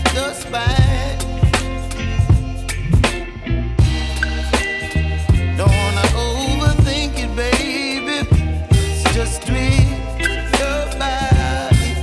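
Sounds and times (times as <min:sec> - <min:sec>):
r and b music with drums and bass: 0:00.0 - 0:12.0.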